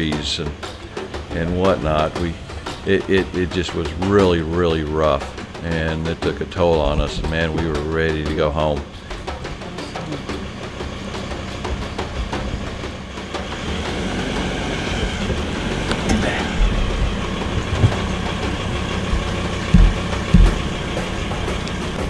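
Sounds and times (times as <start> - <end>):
vehicle engine and road rumble: 0.0 - 22.0
vehicle jolting over bumps: 0.0 - 22.0.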